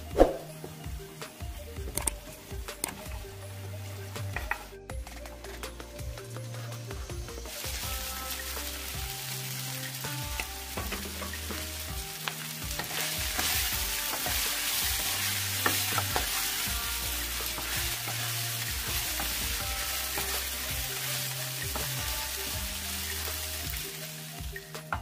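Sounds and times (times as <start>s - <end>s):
food sizzling in a wok: 0.0s - 25.0s
soft background music: 0.0s - 25.0s.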